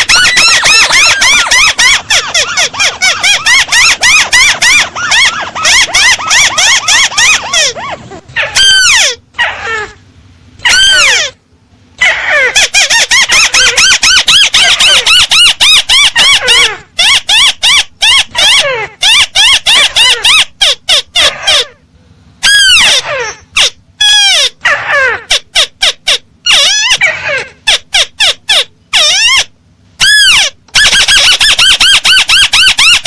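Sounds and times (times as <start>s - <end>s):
recorded bird call chirps: 0.0s - 9.9s, 12.0s - 21.8s, 22.4s - 33.0s.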